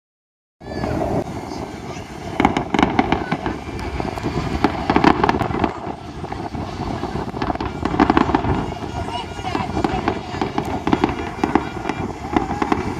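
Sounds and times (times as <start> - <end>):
fireworks bursting: 0.6 - 12.9
steady background noise: 0.6 - 12.9.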